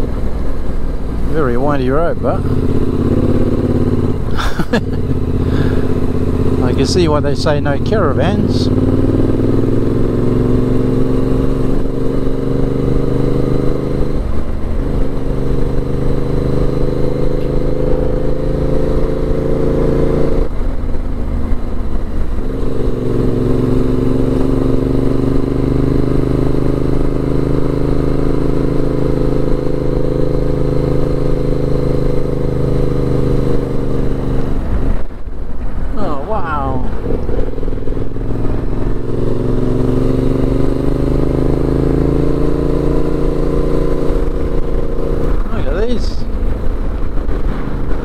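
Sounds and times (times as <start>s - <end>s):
motorcycle engine pulling uphill: 0.0s - 48.0s.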